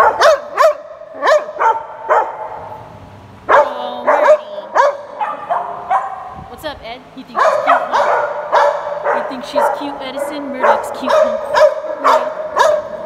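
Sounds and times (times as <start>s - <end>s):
dogs barking and yipping: 0.0s - 6.4s, 7.3s - 13.0s.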